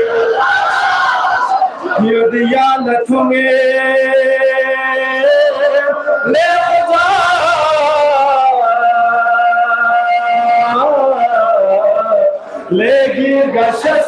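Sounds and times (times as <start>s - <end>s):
man chanting: 1.8s - 14.0s.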